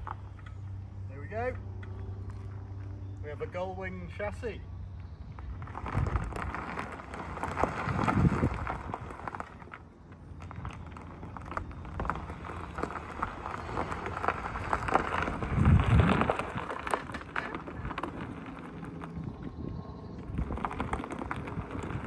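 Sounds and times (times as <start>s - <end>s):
tyres crunching over gravel: 0.0s - 22.0s.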